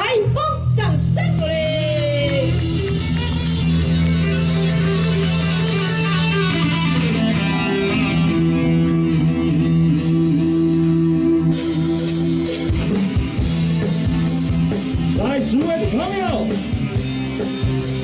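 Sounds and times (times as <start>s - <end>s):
electric guitar chords: 0.0s - 18.0s
live rock band: 0.0s - 18.0s.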